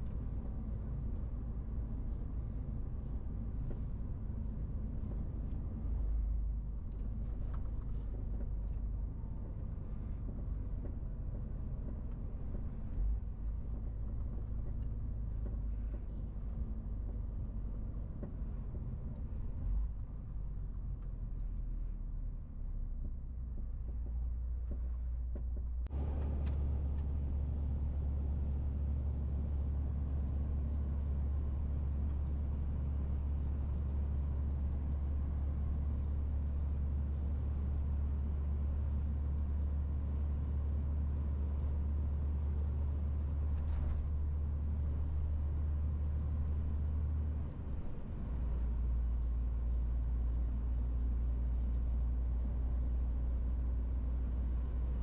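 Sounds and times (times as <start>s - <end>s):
lorry engine and road rumble: 0.0s - 55.0s.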